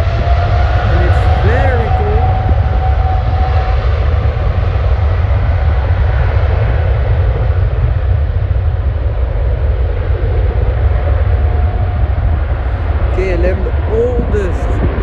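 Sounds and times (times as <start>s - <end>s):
jet airliner taking off: 0.0s - 15.0s
wind rumble on microphone: 0.0s - 15.0s.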